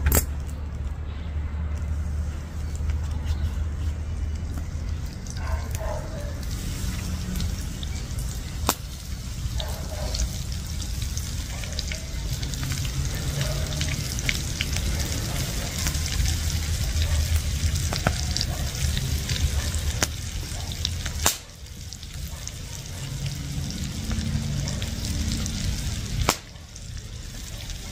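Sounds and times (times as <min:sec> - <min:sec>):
fish frying in a pan: 0:03.6 - 0:27.9.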